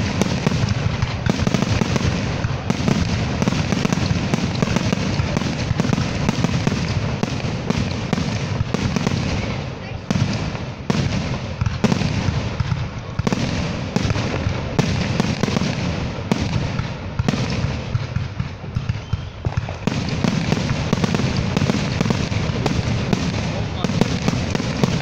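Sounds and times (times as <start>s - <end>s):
fireworks bangs: 0.0s - 25.0s
fireworks crackle: 0.0s - 25.0s.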